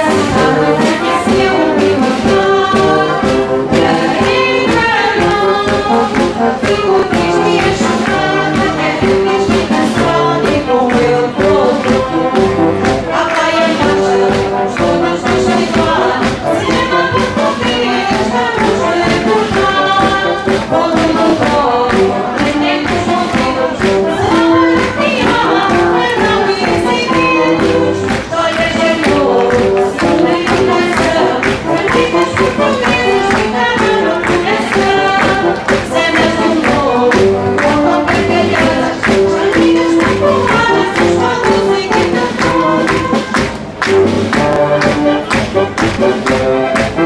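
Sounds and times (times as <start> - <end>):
brass band playing a march: 0.0 - 47.0
group of voices singing: 0.0 - 47.0.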